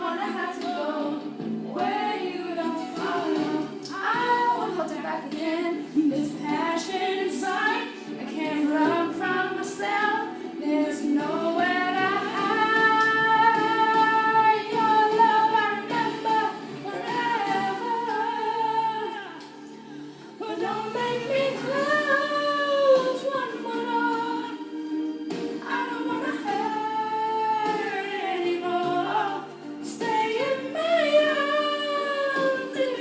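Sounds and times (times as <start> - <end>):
woman singing a cappella: 0.0 - 19.7, 20.4 - 24.8, 25.6 - 33.0.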